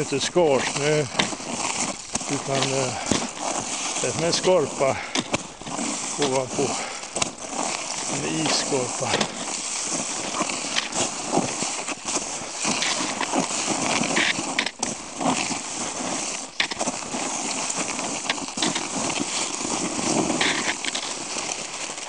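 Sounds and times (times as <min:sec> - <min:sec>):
ice crust crackling: 0:00.0 - 0:22.0
skis scraping over snow: 0:00.0 - 0:22.0.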